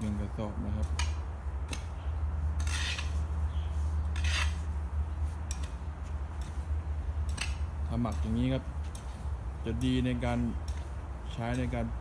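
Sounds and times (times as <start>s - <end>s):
hoe scraping through dry soil: 1.7s - 12.0s.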